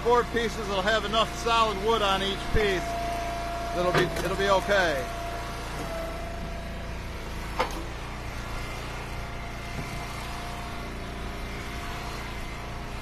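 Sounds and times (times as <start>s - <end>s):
wood splitter engine running: 0.0s - 13.0s.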